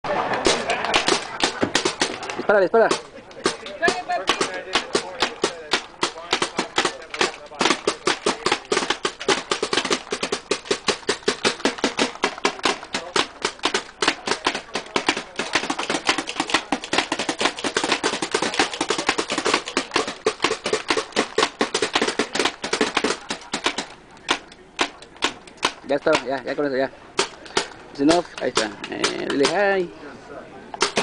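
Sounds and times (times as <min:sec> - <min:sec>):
paintball marker firing rapidly: 0:00.4 - 0:26.6, 0:27.2 - 0:29.7, 0:30.8 - 0:31.0.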